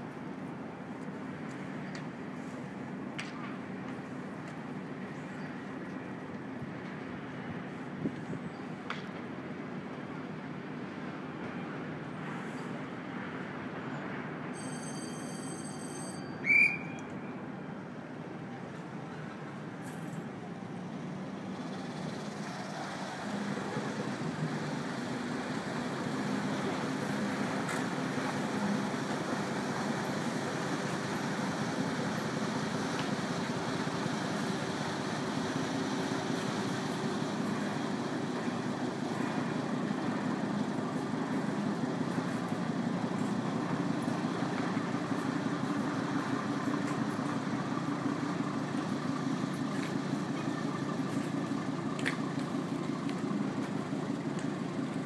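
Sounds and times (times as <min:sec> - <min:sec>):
ferry engine droning: 0:00.0 - 0:55.0.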